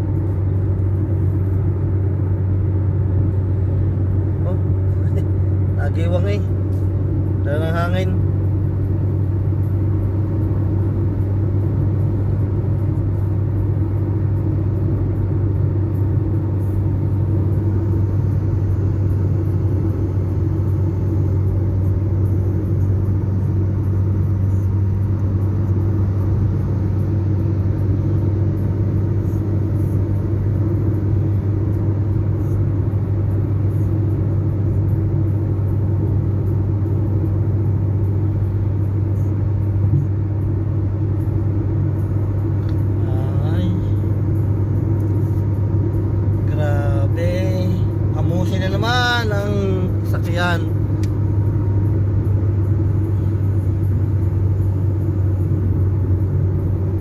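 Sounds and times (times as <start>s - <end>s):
vehicle engine and road drone: 0.0s - 57.0s.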